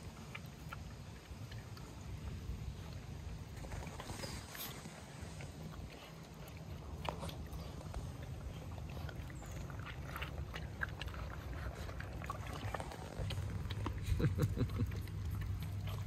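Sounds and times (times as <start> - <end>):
puppies crunching dry kibble: 0.0 - 16.0
steady low rumble: 0.0 - 16.0.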